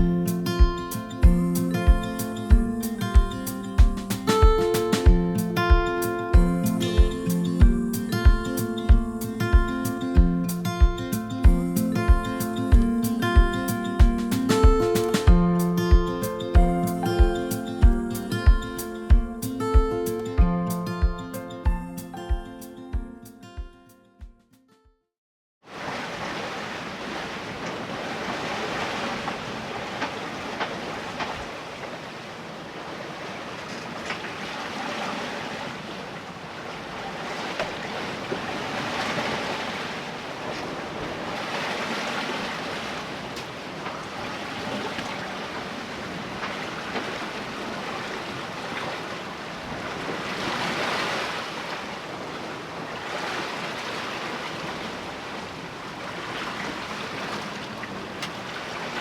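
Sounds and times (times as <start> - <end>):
water rushing along a hull: 0.0 - 21.1, 25.6 - 59.0
waves slapping: 0.0 - 21.4, 25.6 - 59.0
wind: 0.0 - 24.2, 25.6 - 59.0.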